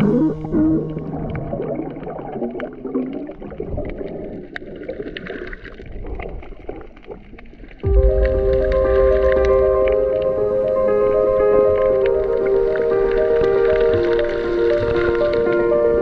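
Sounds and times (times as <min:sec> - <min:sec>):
muffled underwater water wash: 0:00.0 - 0:16.0.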